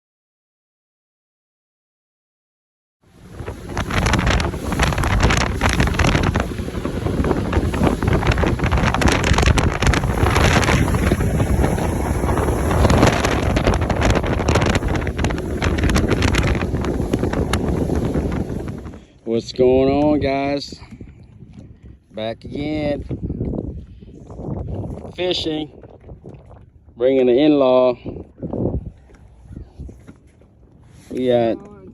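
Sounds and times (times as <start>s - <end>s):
wind buffeting microphone: 3.1s - 31.9s.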